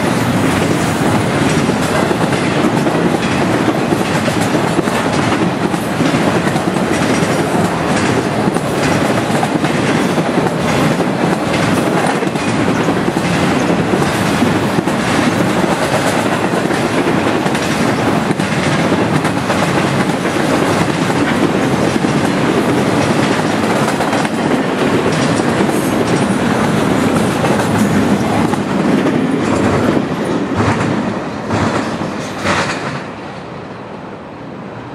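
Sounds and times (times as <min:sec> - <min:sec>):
freight train rolling past: 0:00.0 - 0:34.9
wheels clicking over rail joints: 0:01.4 - 0:33.1.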